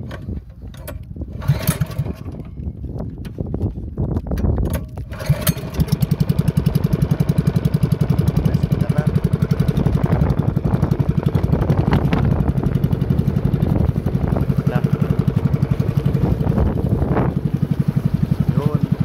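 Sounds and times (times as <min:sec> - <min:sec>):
small boat engine puttering: 0:00.0 - 0:19.0.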